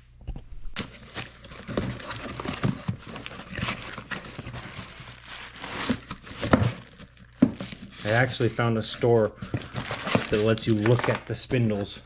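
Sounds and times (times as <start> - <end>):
cardboard rustling and scraping: 0.2 - 11.9.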